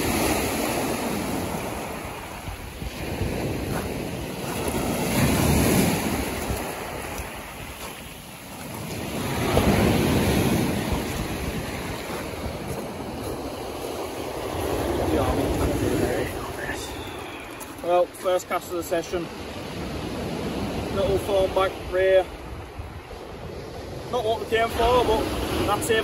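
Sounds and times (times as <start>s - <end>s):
wind buffeting microphone: 0.0s - 18.2s, 19.5s - 26.0s
surf breaking on beach: 0.0s - 26.0s.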